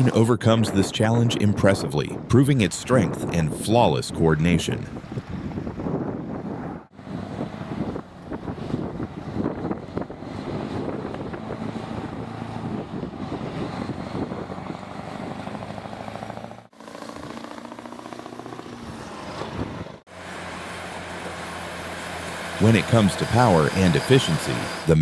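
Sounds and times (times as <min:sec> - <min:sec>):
truck engines droning under load: 0:04.9 - 0:25.0.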